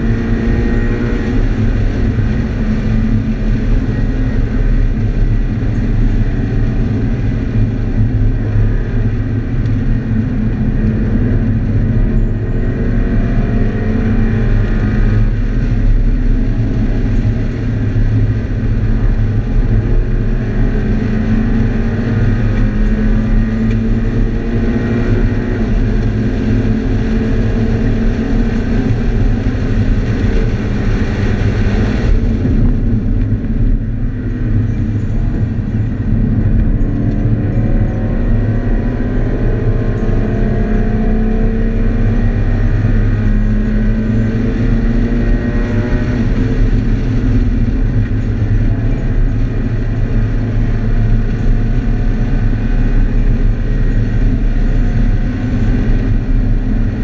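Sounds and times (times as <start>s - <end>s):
car engine accelerating in cabin: 0.0s - 57.0s.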